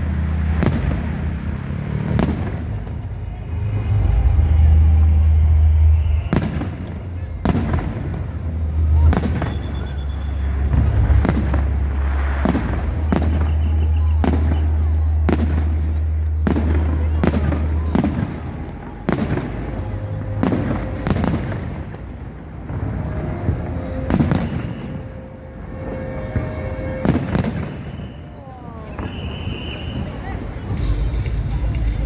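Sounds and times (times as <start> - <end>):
steady low rumble: 0.0 - 27.9
fireworks bursting with echo: 0.0 - 32.0.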